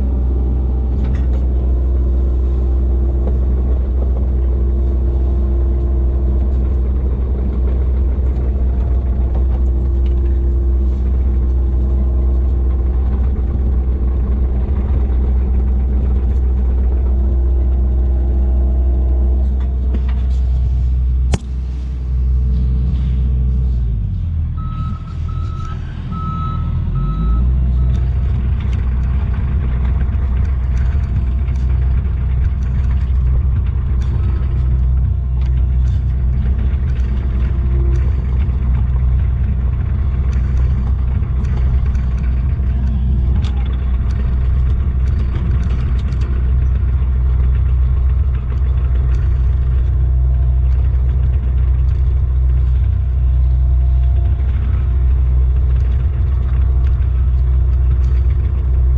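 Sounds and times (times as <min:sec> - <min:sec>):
excavator diesel engine running: 0:00.0 - 0:58.9
hydraulic whine: 0:00.0 - 0:58.9.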